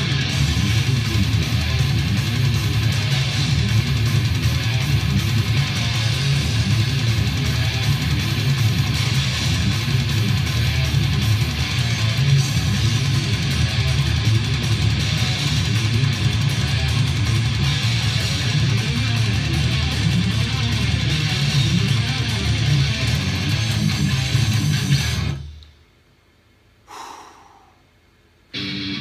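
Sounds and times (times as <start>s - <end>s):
distorted electric guitar riffs: 0.0s - 25.6s, 28.5s - 29.0s.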